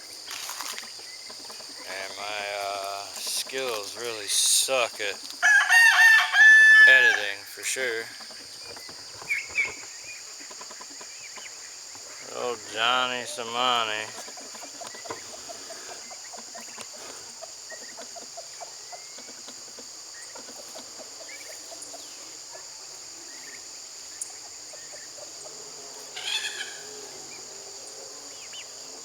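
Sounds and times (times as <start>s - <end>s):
high insect chorus: 0.0s - 29.0s
poultry calling: 0.0s - 29.0s.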